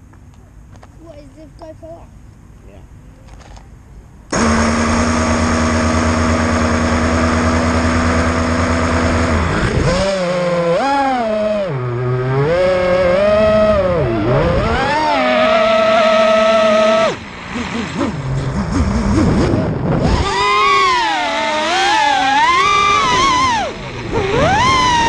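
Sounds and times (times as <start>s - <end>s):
quadcopter motors whining: 4.3s - 25.0s.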